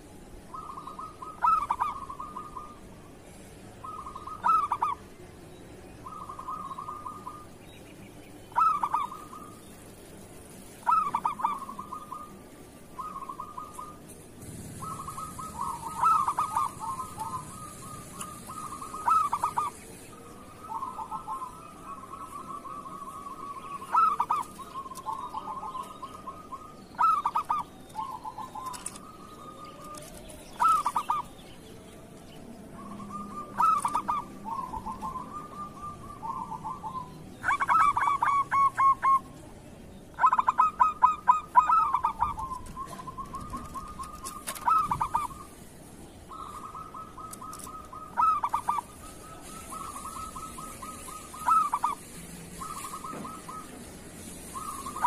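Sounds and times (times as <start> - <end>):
doves cooing: 0.0 - 5.4, 6.0 - 7.6, 8.5 - 10.1, 10.7 - 45.6, 46.3 - 55.0
steady trilling call: 0.0 - 31.7, 32.6 - 39.4, 40.0 - 55.0.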